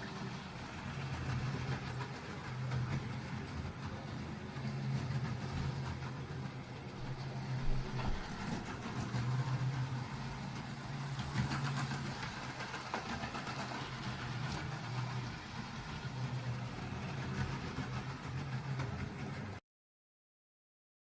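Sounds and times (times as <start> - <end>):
model train motor hum: 0.0 - 19.6.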